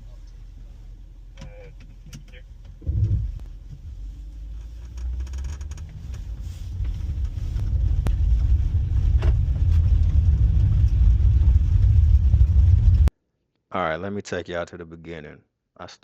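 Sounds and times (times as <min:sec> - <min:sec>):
vehicle engine and road noise: 0:00.0 - 0:13.1.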